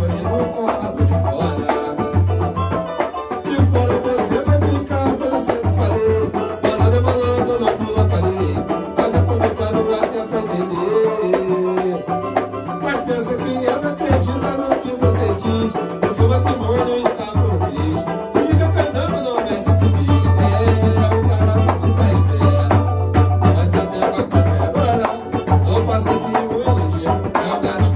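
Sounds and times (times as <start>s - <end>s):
low hand drum beat: 0.0s - 27.9s
pandeiro: 0.0s - 27.9s
strummed string instruments: 0.0s - 27.9s.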